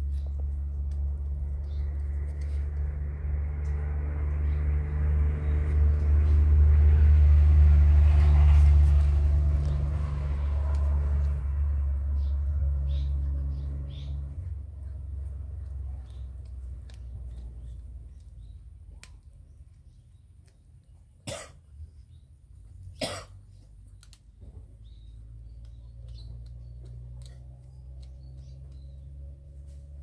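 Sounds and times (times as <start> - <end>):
vehicle engine rumbling past: 0.0 - 19.7, 22.5 - 30.0.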